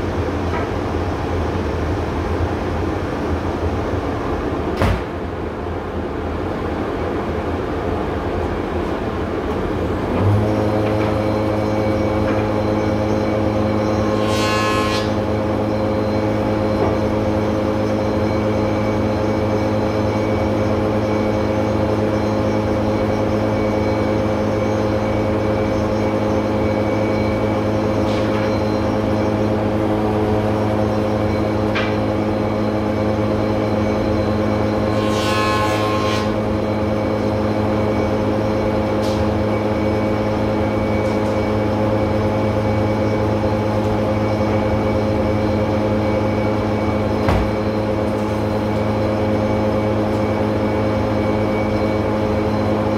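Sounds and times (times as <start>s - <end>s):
woodworking machine motor hum: 10.0s - 52.9s.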